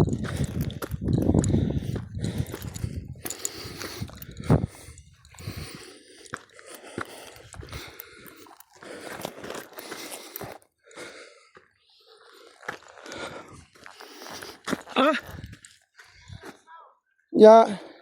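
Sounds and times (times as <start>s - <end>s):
footsteps crunching on gravel: 0.0s - 10.7s, 11.6s - 16.6s
person breathing hard: 0.0s - 16.5s.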